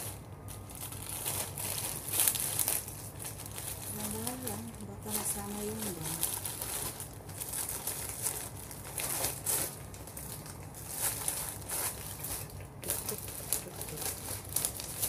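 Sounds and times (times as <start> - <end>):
plastic mailer bag crinkling: 0.0 - 15.0
scissors cutting plastic: 0.8 - 15.0.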